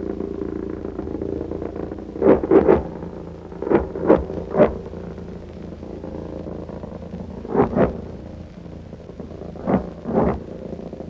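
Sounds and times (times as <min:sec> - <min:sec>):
pulsejet engine droning: 0:00.0 - 0:11.0.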